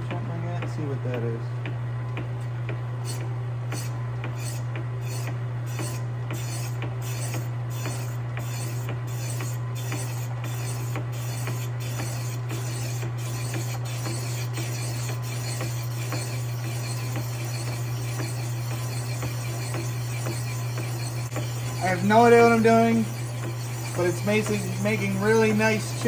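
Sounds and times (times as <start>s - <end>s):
metal lathe cutting metal: 3.1s - 26.0s.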